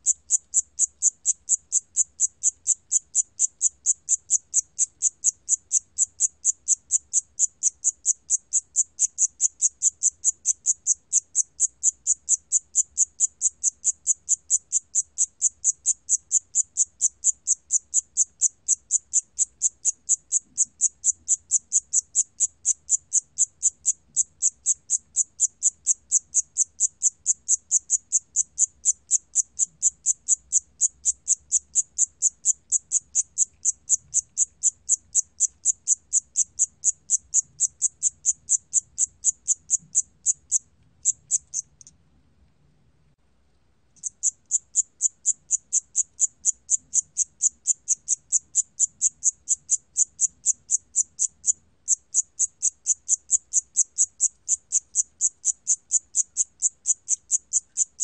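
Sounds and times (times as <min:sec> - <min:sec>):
cricket chirping: 0:00.0 - 0:41.9, 0:44.0 - 0:58.0.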